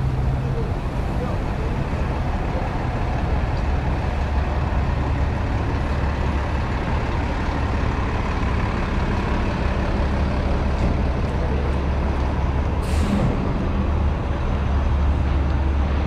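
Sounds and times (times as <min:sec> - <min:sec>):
city street traffic: 0:00.0 - 0:16.0
heavy vehicle engine rumble: 0:00.0 - 0:16.0.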